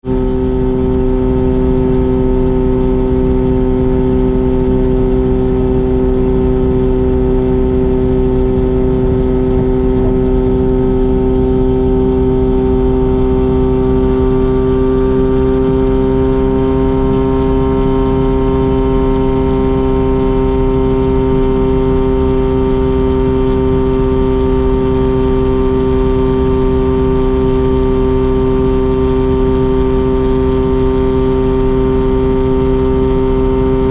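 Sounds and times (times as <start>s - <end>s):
rotary engine and exhaust drone: 0.0s - 33.9s.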